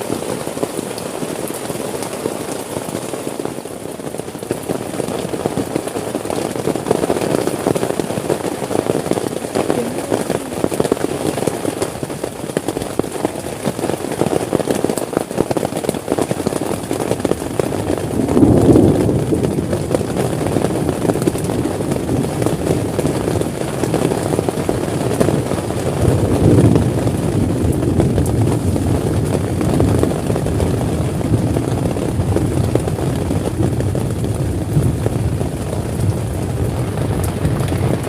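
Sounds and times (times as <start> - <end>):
heavy rain drumming on a tent: 0.0 - 38.0.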